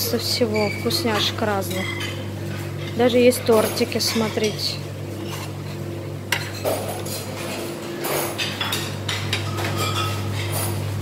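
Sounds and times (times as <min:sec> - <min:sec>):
steady low hum: 0:00.0 - 0:11.0
dishes and cutlery clinking: 0:00.6 - 0:05.6, 0:06.3 - 0:10.9.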